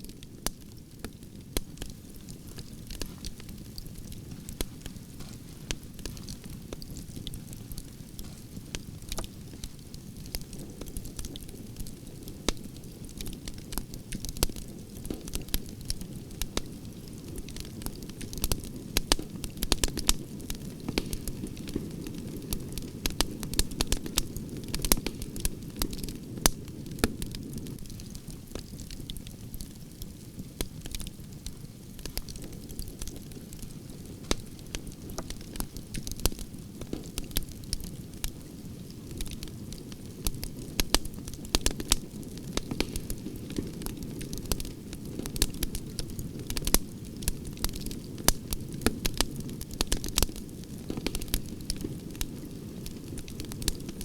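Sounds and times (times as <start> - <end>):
campfire crackling and popping: 0.0 - 54.0
low rumble of flames: 0.0 - 54.0
sharp snaps of burning wood: 0.0 - 54.0.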